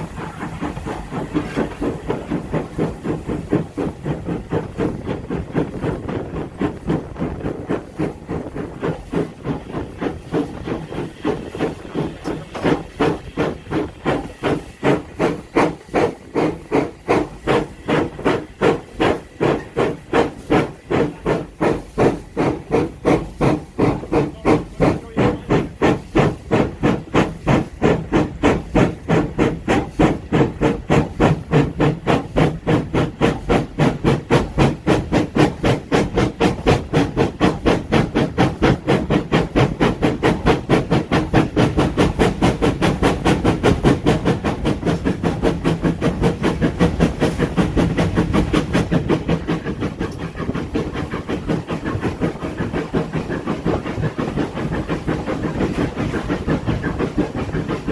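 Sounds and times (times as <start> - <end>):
steam locomotive chuffing: 0.0 - 57.9.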